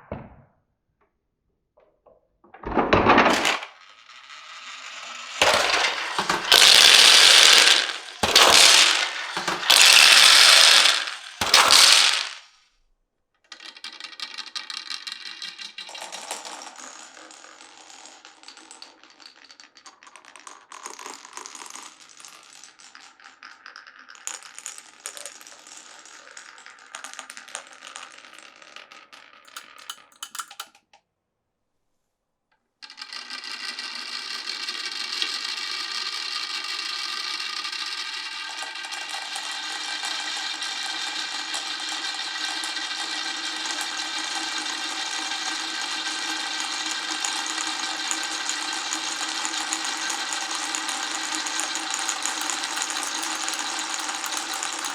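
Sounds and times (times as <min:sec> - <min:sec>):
marbles rattling on wooden track: 0:02.5 - 0:12.5, 0:13.5 - 0:30.9, 0:32.8 - 0:54.9.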